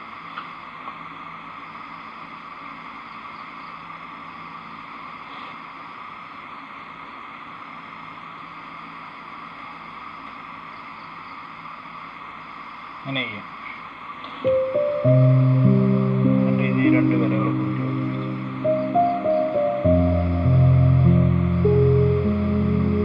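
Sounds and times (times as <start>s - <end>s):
constant hiss: 0.0s - 23.0s
faint low hum: 0.0s - 23.0s.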